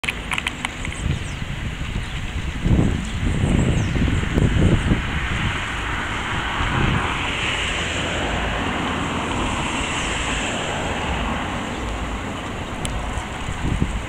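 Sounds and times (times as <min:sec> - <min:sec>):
even rushing wash: 0:00.0 - 0:14.0
wind rumbling on microphone: 0:00.0 - 0:14.0.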